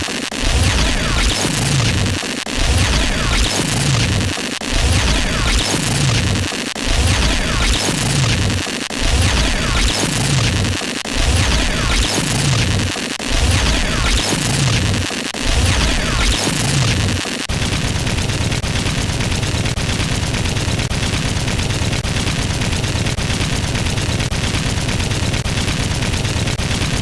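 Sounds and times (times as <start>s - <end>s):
rapid machine-gun fire: 0.0s - 27.0s.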